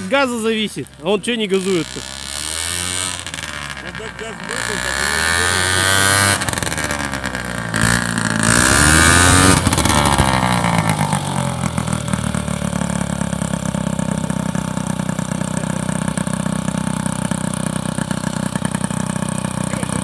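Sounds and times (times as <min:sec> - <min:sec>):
airboat engine winding down: 0:00.0 - 0:20.0.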